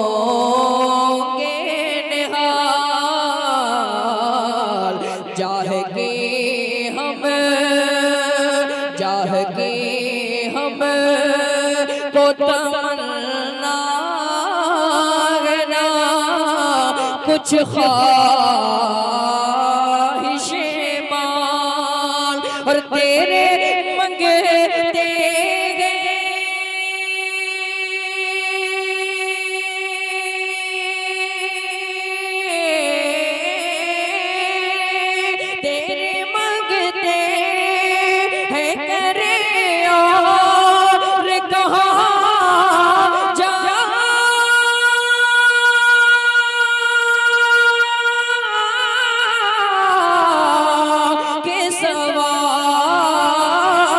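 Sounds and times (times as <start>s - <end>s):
man singing: 0.0s - 53.9s.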